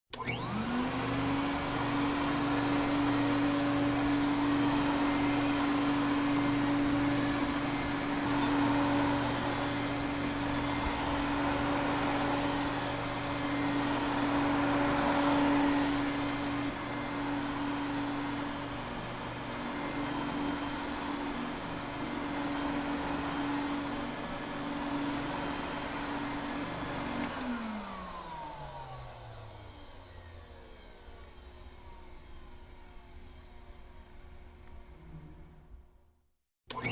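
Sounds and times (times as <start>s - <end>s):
vacuum cleaner running: 0.1s - 35.9s.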